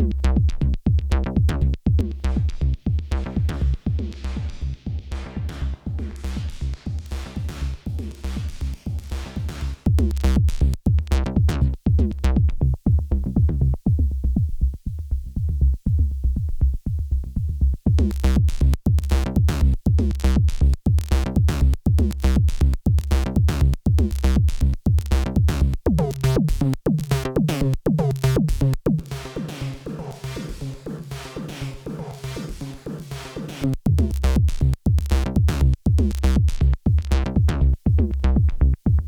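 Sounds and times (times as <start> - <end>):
heavy synth bass: 0.0 - 39.0
synthesizer pulsing sequenced pattern: 0.0 - 39.0.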